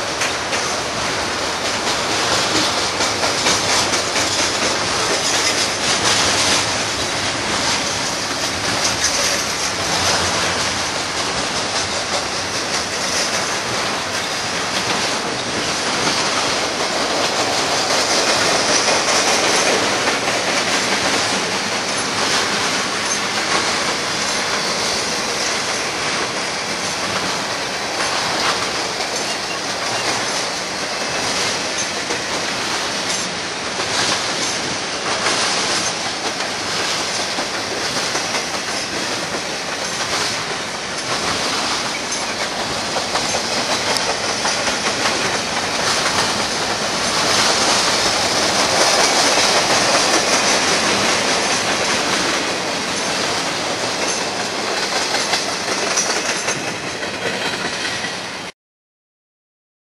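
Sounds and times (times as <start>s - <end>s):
wheels clicking over rail joints: 0.0s - 58.3s
freight train rolling past: 0.0s - 58.5s.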